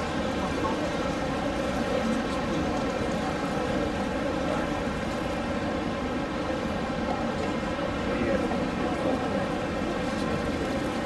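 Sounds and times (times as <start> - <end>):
busy hall crowd din: 0.0 - 11.0.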